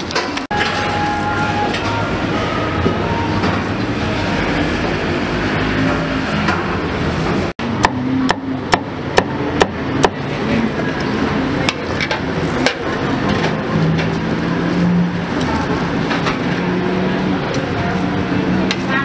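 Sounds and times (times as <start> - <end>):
steady background din: 0.1 - 19.0.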